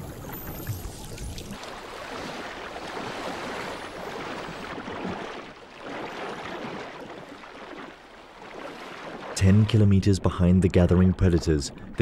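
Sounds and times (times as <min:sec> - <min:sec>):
water splashing and rushing: 0:00.0 - 0:12.0.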